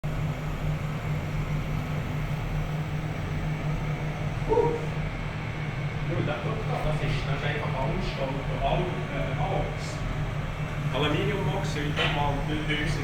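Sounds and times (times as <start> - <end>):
low machine hum with pulsing drone: 0.0 - 13.0.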